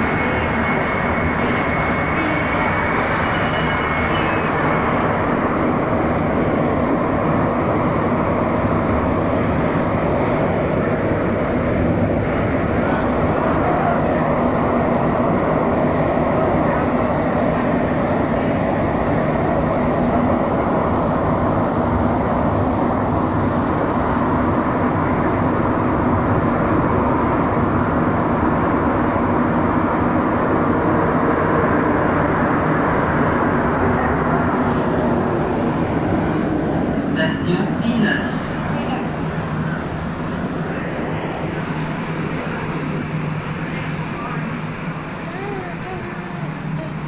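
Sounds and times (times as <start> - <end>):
subway train rumbling in tunnel: 0.0 - 47.0.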